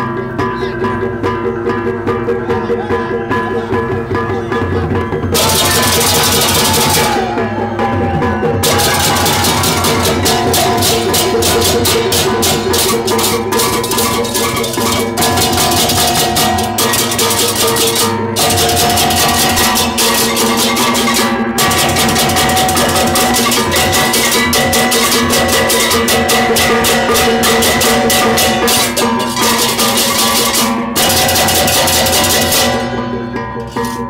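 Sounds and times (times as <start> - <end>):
hand cymbals clashing: 0.0 - 34.0
hand drums: 0.0 - 34.0
ringing gong tones: 1.8 - 34.0.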